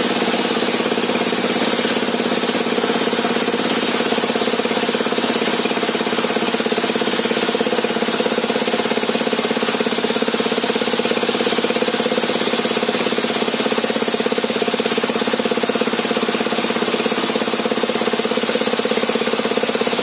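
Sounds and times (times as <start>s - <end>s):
engine running table saw: 0.0s - 20.0s.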